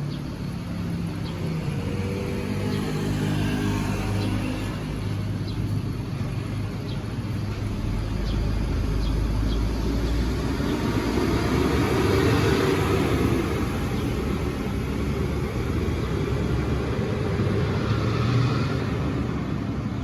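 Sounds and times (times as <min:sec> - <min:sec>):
bus engine pulling away: 0:00.0 - 0:20.0
road traffic: 0:00.0 - 0:20.0
vehicle approaching: 0:00.0 - 0:20.0.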